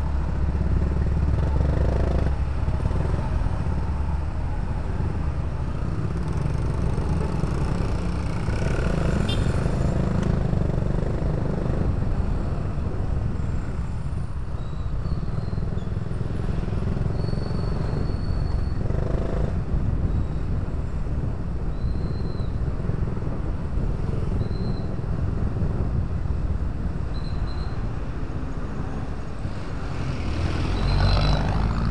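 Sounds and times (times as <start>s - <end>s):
wind rumble on microphone: 0.0s - 31.9s.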